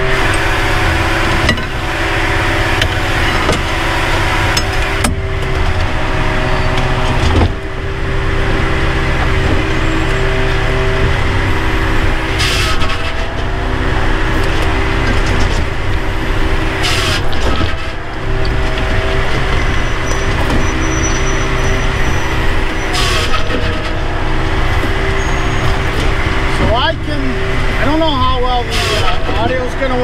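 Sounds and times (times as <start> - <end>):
engine and hydraulics running: 0.0 - 30.0.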